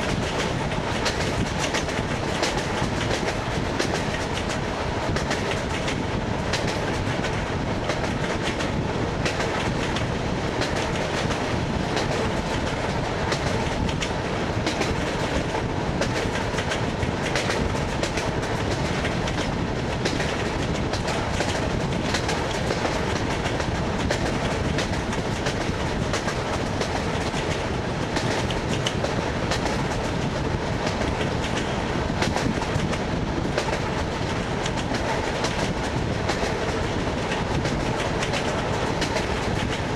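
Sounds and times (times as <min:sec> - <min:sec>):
train rolling rumble: 0:00.0 - 0:39.9.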